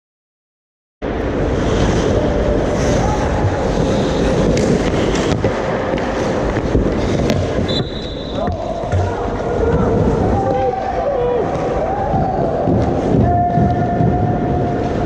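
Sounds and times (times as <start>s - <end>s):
steady rushing noise: 1.0s - 15.0s
skates scraping ice: 1.4s - 15.0s
sticks and puck clattering: 2.7s - 15.0s.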